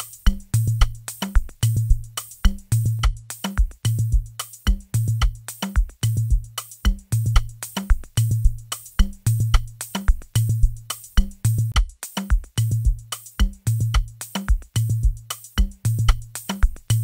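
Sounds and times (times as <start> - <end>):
hi-hat ticks: 0.0 - 17.0
kick drum with bass tail: 0.0 - 17.0.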